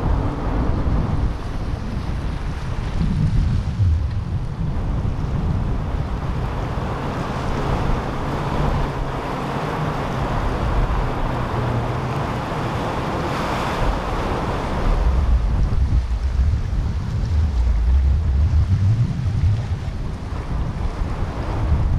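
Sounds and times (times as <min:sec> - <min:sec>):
boat engines rumbling: 0:00.0 - 0:21.9
rushing water and waves: 0:00.0 - 0:21.9
wind buffeting microphone: 0:00.0 - 0:21.9.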